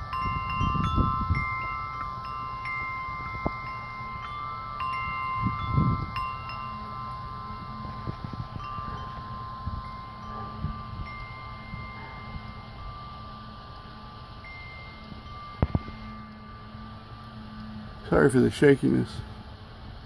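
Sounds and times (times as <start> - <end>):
low rumbles: 0.0 - 20.0
wind chimes ringing: 0.0 - 20.0.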